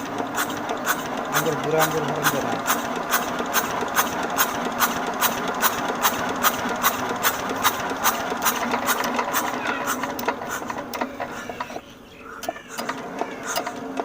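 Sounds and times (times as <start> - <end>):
engine clicking: 0.0 - 11.8, 12.4 - 14.0
old engine running slowly: 0.0 - 11.8, 12.4 - 14.0.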